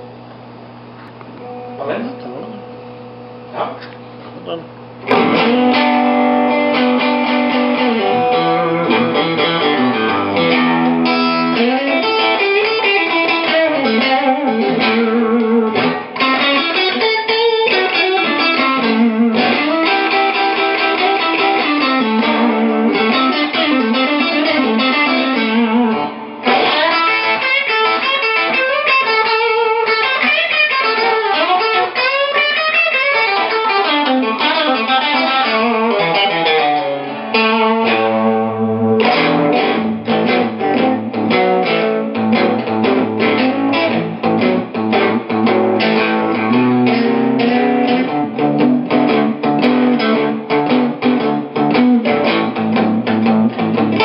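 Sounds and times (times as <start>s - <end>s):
electric guitar lead with bends: 0.0s - 4.2s, 4.8s - 54.0s.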